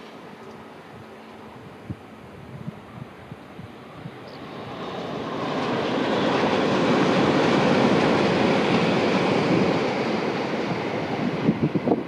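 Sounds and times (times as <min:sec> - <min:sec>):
high-speed train rushing past: 0:00.0 - 0:12.0.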